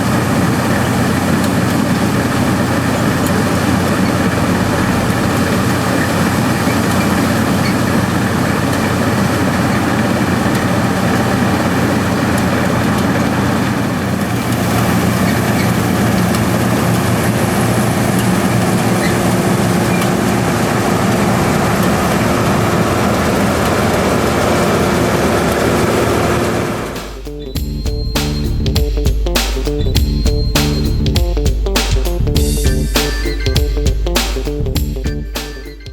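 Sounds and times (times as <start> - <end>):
combine harvester working: 0.0 - 35.9
tractors running: 0.0 - 35.9.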